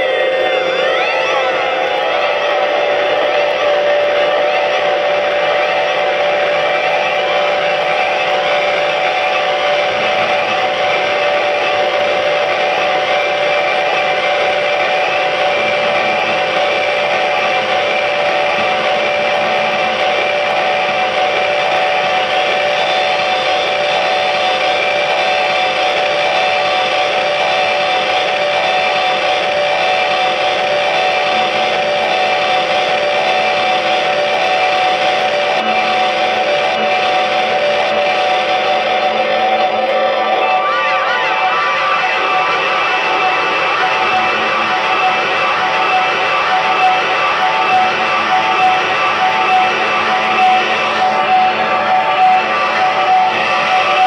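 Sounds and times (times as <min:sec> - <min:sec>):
electric guitar noise: 0:00.0 - 0:54.0
synthesizer drone: 0:00.0 - 0:54.0.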